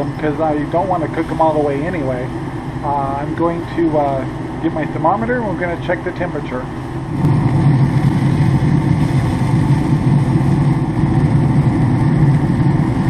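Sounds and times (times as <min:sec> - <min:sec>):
grill fire low rumble: 0:00.0 - 0:13.0.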